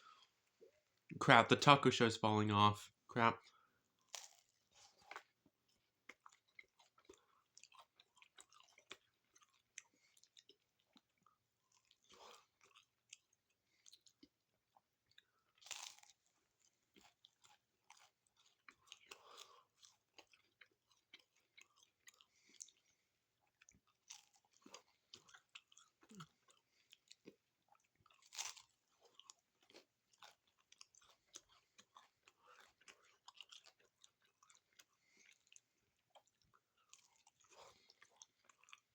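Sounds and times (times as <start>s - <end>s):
crunchy chewing: 3.5s - 38.9s.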